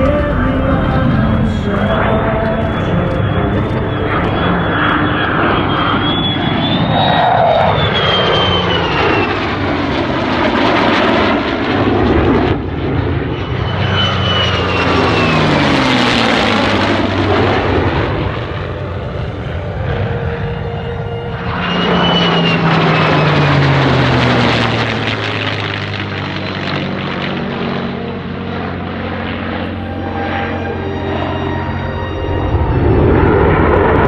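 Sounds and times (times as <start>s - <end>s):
jet engine whine: 0.0s - 34.0s
piston aircraft engine: 0.0s - 34.0s.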